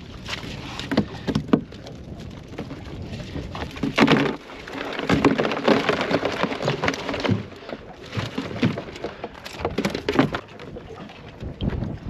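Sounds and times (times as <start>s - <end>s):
crab pot rustling and clattering: 0.3s - 10.6s.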